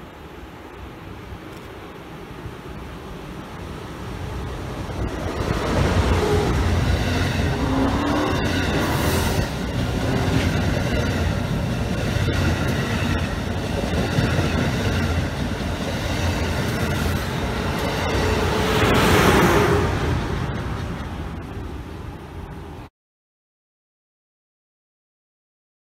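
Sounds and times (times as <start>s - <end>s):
train rumbling on rails: 0.0s - 22.9s.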